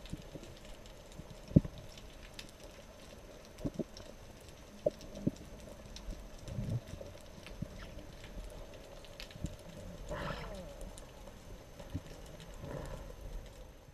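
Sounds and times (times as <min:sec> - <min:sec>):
faint clicks: 0:00.0 - 0:13.7
low steady hum: 0:00.0 - 0:13.9.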